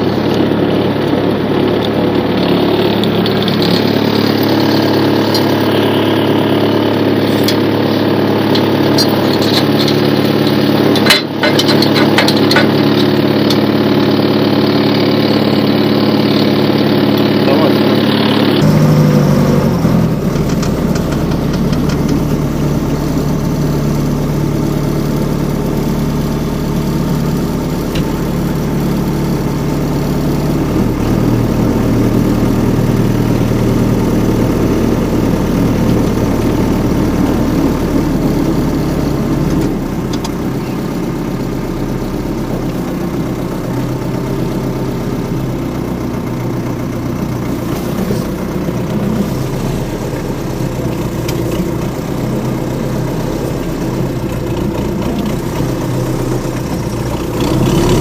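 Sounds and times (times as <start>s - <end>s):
small tractor engine running: 0.0s - 58.0s.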